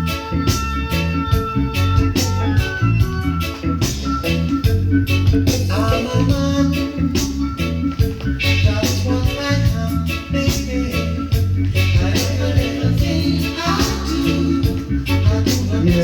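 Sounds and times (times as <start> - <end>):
reggae music with heavy bass: 0.0 - 16.0.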